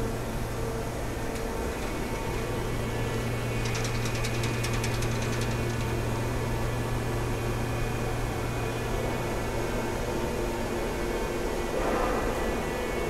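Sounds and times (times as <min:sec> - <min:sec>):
milling machine hum: 0:00.0 - 0:13.0.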